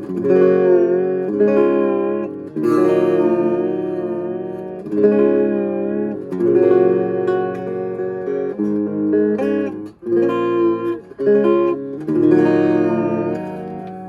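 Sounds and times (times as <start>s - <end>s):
clean electric guitar strumming chords: 0.0s - 14.0s.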